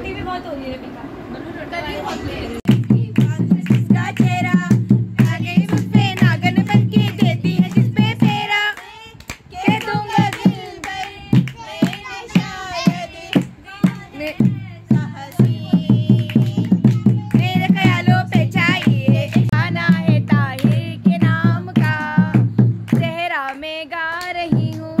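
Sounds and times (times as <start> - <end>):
hand drum beat: 2.7 - 8.9, 9.6 - 23.4, 24.3 - 25.0
hand claps: 2.7 - 14.6, 15.3 - 25.0
group singing: 2.7 - 23.2.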